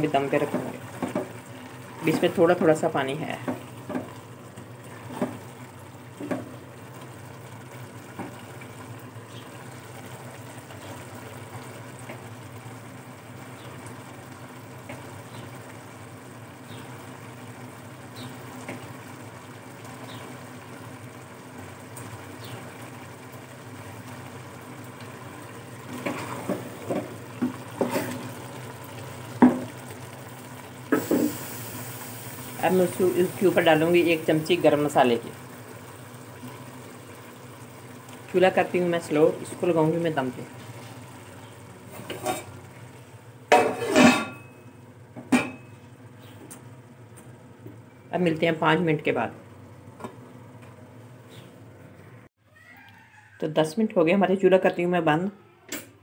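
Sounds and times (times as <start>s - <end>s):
rice bubbling and sizzling: 0.0s - 52.4s.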